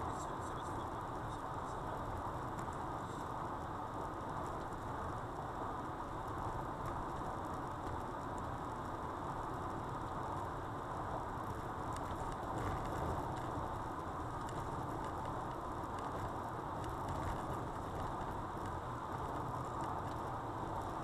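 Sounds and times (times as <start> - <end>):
faint ticks and rattles: 0.0 - 21.0
road and tyre noise in car: 0.0 - 21.0.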